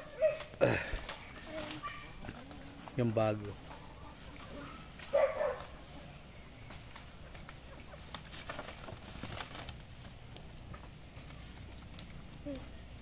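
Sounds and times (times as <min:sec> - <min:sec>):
leaves rustling and crackling: 0:00.0 - 0:13.0.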